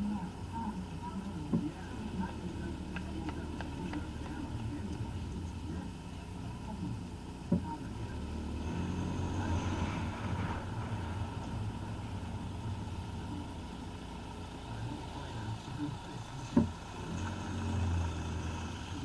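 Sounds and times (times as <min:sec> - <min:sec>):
car driving slowly: 0:00.0 - 0:19.0.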